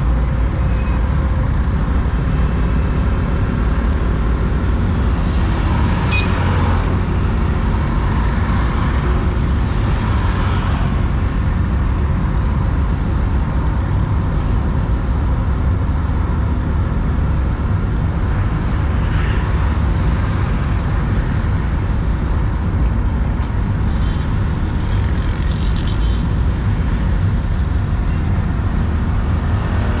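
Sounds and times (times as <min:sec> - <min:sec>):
car driving road rumble: 0:00.0 - 0:30.0.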